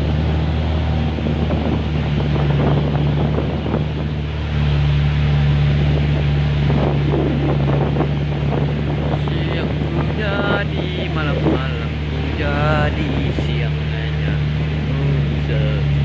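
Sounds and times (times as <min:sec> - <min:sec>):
pickup truck engine under load: 0:00.0 - 0:16.0.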